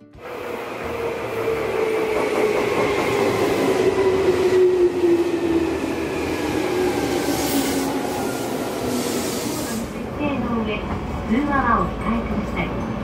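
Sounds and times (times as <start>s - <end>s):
train wheels on rails: 0.2s - 13.0s.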